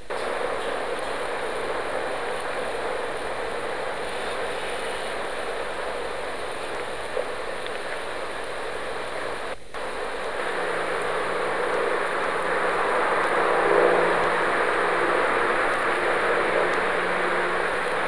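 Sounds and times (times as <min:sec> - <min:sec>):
faint high whine: 0:00.0 - 0:18.0
steady rushing noise: 0:00.0 - 0:18.0.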